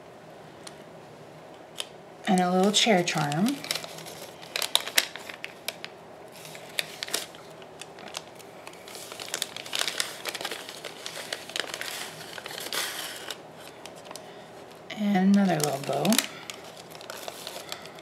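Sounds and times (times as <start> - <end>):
paper bag crinkling: 2.3 - 18.0.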